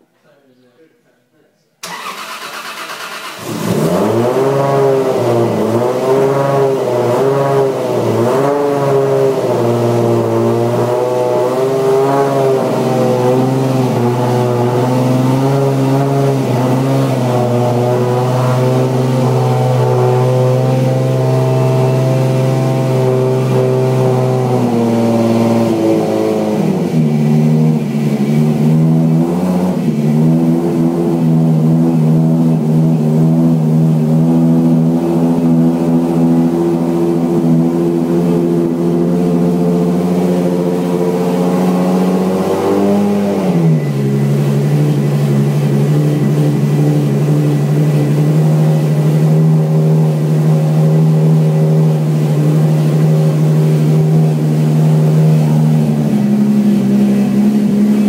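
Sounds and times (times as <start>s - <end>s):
car engine revving and idling: 1.8s - 58.0s.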